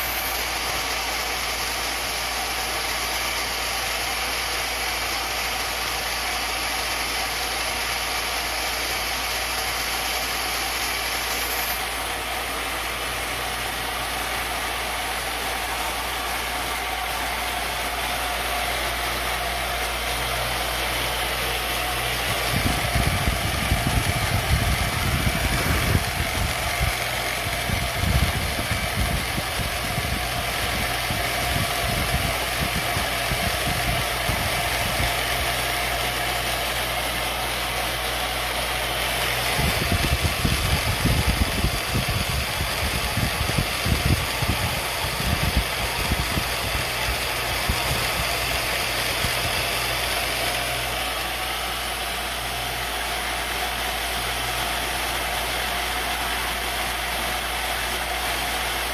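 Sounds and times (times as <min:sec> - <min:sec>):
end mill cutting wood: 0:00.0 - 0:58.9
milling machine motor running: 0:00.0 - 0:58.9.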